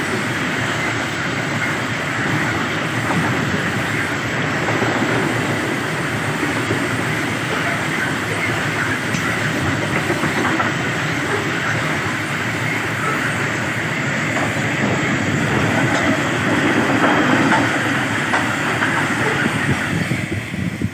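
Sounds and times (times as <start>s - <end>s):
train wheels rumbling on rails: 0.0s - 20.9s
faint clickety-clack: 0.2s - 20.9s.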